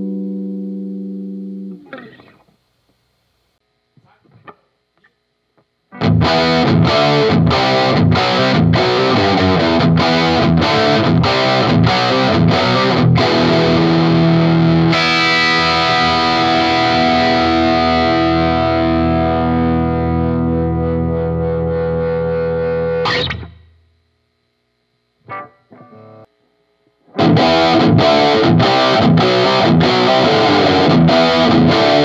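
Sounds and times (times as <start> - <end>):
overdriven electric guitar chords: 0.0 - 2.4, 5.9 - 23.9, 25.1 - 26.4, 27.0 - 32.0.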